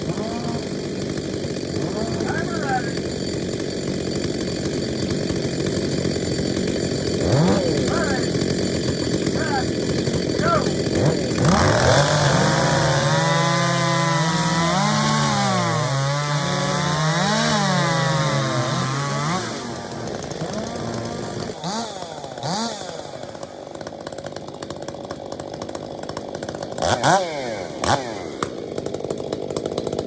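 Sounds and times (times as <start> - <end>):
short saw revs: 0.0 - 24.5, 25.2 - 30.0
chainsaw at full throttle: 0.0 - 30.0.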